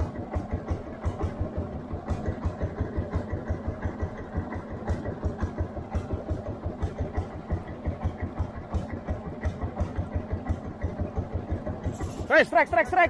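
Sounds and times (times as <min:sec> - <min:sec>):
boat engine chugging: 0:00.0 - 0:13.0.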